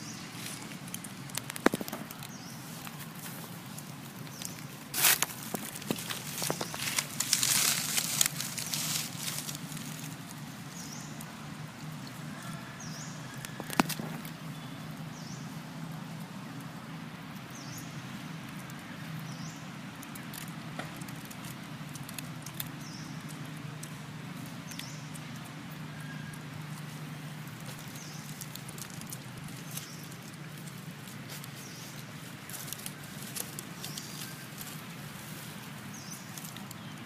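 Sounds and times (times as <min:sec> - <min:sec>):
dry leaves crackling and rustling: 0:00.0 - 0:37.0
steady low hum: 0:00.0 - 0:37.0.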